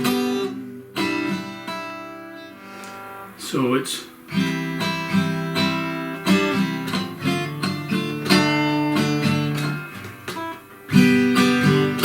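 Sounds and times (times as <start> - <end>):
fingerpicked acoustic guitar: 0.0 - 12.0.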